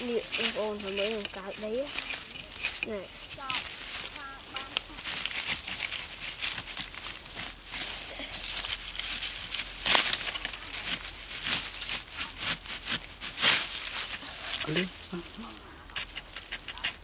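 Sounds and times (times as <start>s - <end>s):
metal blade scraping soil: 0.0s - 14.9s
dry leaves rustling: 0.0s - 17.0s.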